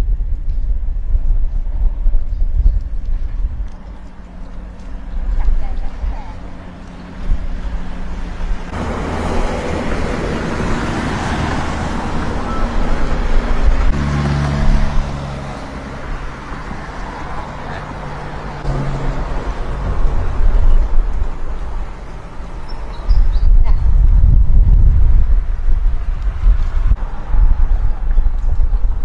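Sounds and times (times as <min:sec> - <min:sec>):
road traffic passing: 0:00.0 - 0:29.0
vehicle passing by: 0:03.7 - 0:29.0.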